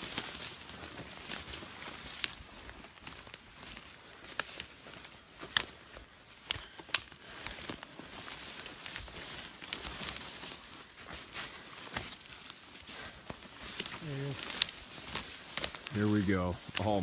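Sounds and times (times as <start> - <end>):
footsteps through dry grass: 0.0 - 17.0
twigs snapping underfoot: 0.0 - 17.0.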